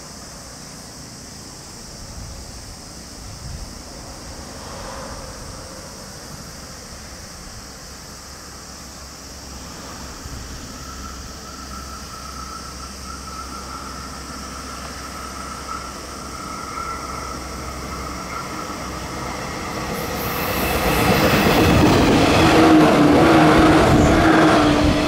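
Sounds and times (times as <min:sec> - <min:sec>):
electric train rumble: 0:00.0 - 0:25.0
high whine: 0:00.0 - 0:25.0.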